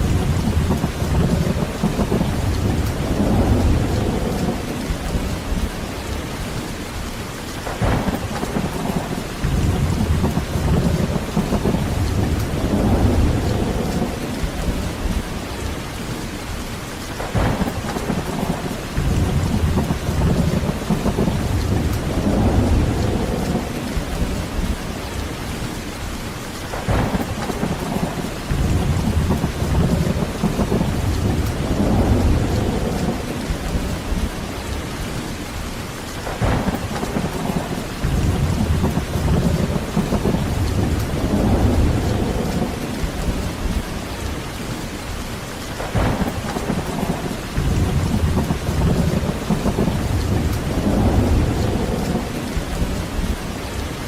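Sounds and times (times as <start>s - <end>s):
low rumbling thunder: 0.0s - 6.7s, 7.6s - 16.2s, 17.1s - 26.1s, 26.7s - 35.6s, 36.2s - 44.9s, 45.8s - 54.0s
heavy rain falling: 0.0s - 54.0s
sharp thunder peaks: 0.0s - 54.0s.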